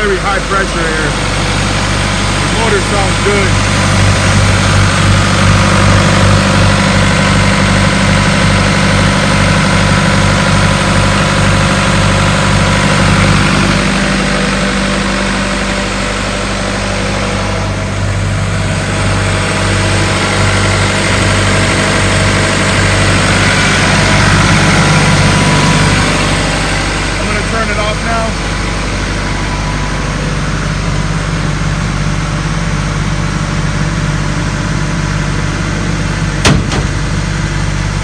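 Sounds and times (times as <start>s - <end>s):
air compressor diesel engine running: 0.0s - 38.0s.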